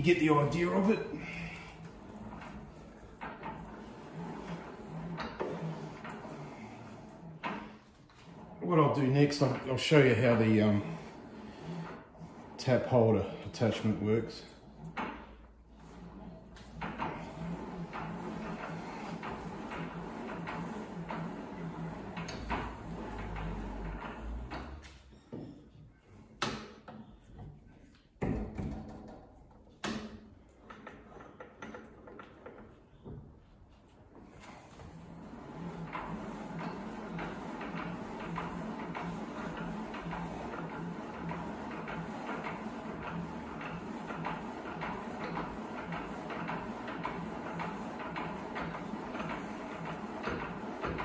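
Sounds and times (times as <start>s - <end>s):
lathe motor hum: 0.0s - 25.0s, 34.3s - 51.0s.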